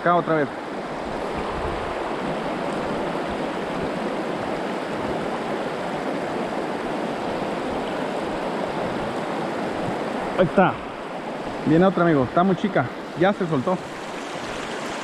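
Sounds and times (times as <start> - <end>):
river water rushing over rocks: 0.2 - 15.0.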